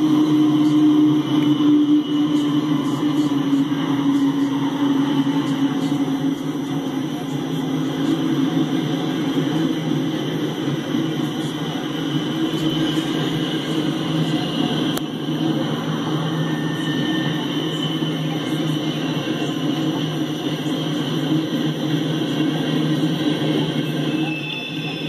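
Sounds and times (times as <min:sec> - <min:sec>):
hopper cars rolling on rails: 0:00.0 - 0:25.0.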